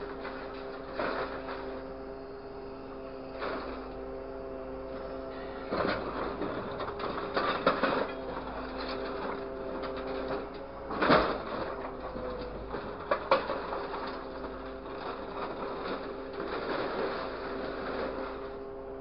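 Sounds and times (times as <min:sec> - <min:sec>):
hydraulics humming: 0:00.0 - 0:19.0.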